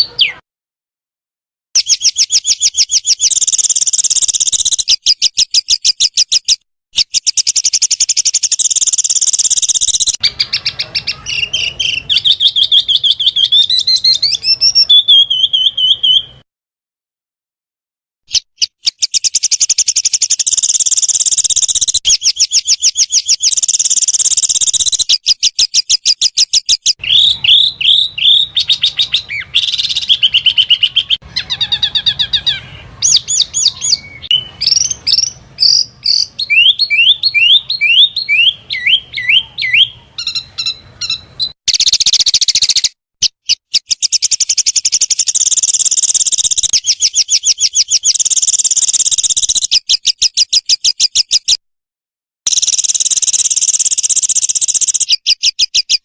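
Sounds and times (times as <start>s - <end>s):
songbird burst calls: 1.8s - 16.4s, 18.4s - 51.5s, 52.5s - 55.4s.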